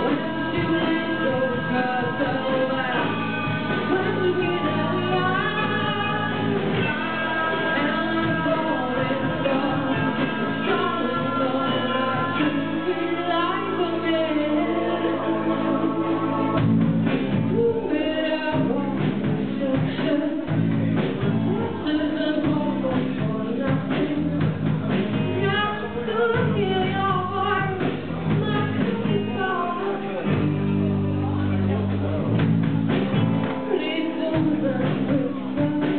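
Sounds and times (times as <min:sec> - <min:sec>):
women singing: 0:00.0 - 0:31.5, 0:33.6 - 0:35.9
bass guitar: 0:00.0 - 0:35.9
drums: 0:00.0 - 0:35.9
keyboard: 0:00.0 - 0:35.9.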